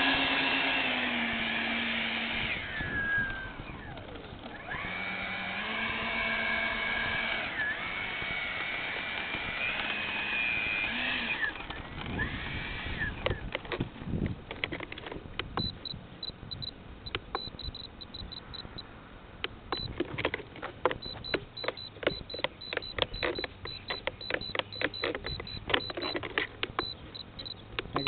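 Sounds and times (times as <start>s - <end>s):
servos whirring and clicking: 0.0s - 18.8s, 19.4s - 28.0s.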